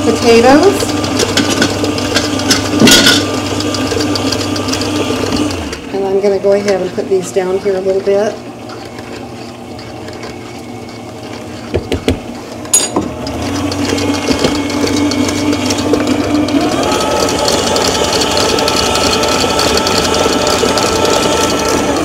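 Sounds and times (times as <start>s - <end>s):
stand mixer whisking: 0.0s - 22.0s.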